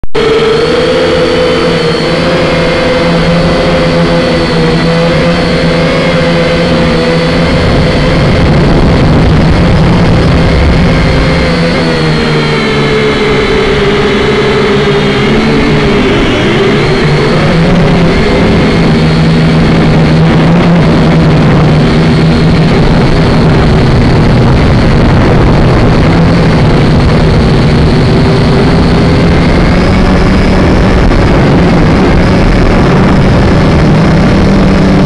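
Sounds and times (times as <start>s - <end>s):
wind noise: 0.1s - 35.0s
quadcopter motors whining: 0.2s - 35.0s.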